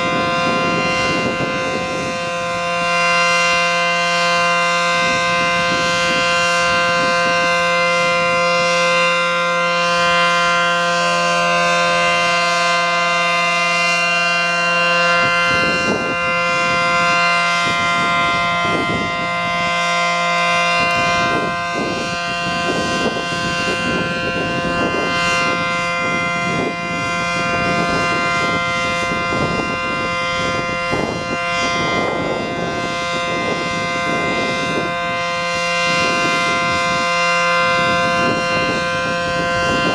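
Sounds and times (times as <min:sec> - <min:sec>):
warning siren dual tone: 0:00.0 - 0:39.9.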